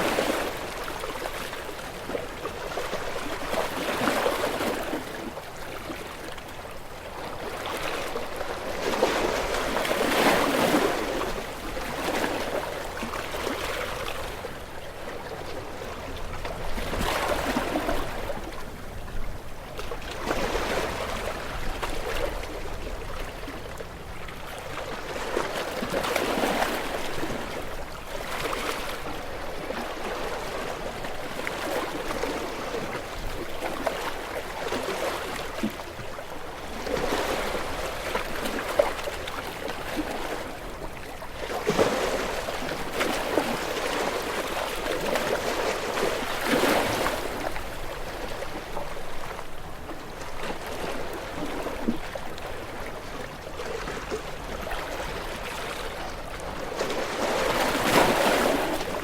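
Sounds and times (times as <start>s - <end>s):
small waves washing onto shore: 0.0s - 59.0s.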